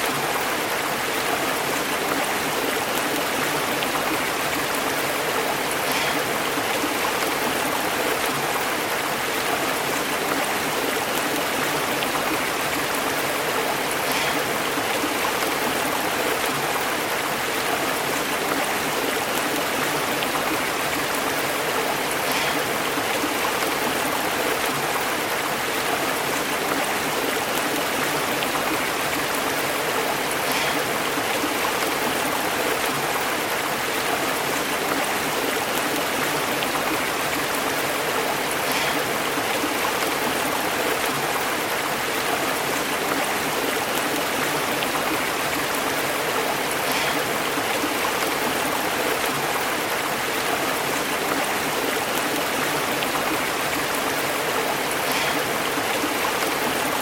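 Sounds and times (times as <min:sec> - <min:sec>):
stream water running over rocks: 0:00.0 - 0:57.0.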